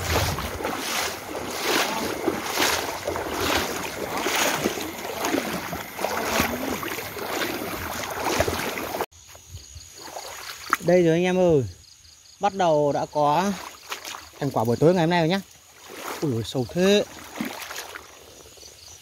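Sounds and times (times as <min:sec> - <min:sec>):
footsteps wading through water: 0:00.0 - 0:09.1, 0:09.9 - 0:11.0, 0:13.2 - 0:18.8.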